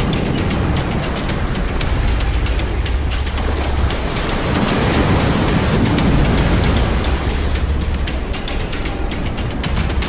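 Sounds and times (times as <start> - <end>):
deep bass: 0.0 - 10.0
fast crisp percussion ticks: 0.0 - 10.0.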